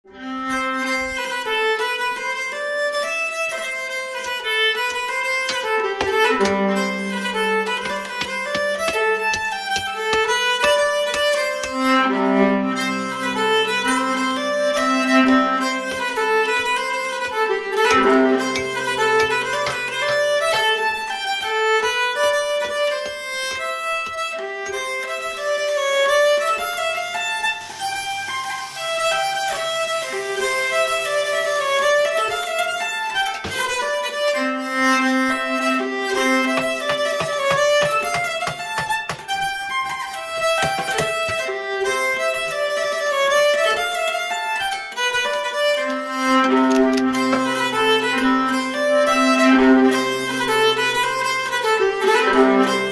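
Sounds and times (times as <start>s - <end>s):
solo fiddle folk tune: 0.0s - 52.9s.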